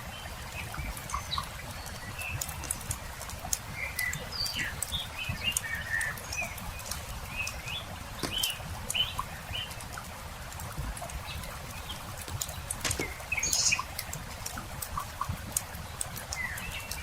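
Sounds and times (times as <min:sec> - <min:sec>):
small birds chirping: 0:00.0 - 0:17.0
campfire popping and crackling: 0:00.8 - 0:17.0.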